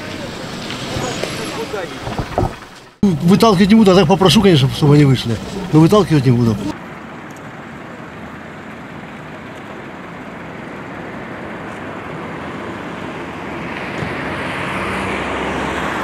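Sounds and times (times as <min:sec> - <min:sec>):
large vehicle engine hum: 0:00.0 - 0:16.0
passing vehicles: 0:00.0 - 0:16.0.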